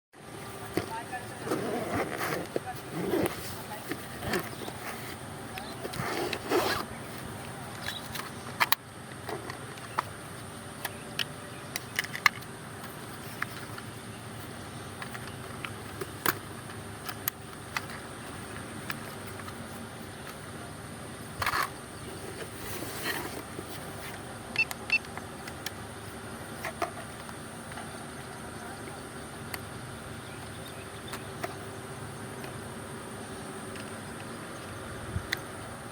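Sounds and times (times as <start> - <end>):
steady background hiss: 0.2 - 35.9.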